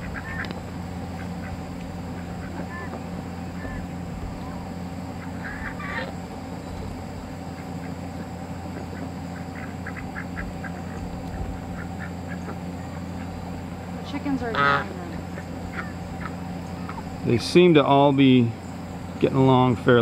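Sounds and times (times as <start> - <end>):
ducks quacking: 0.0 - 17.9
steady low hum: 0.0 - 20.0.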